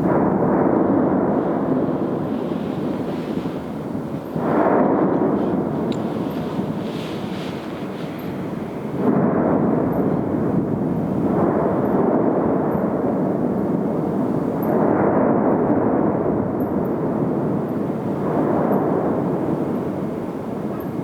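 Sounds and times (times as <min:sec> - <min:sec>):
erupting volcano roaring: 0:00.0 - 0:21.0.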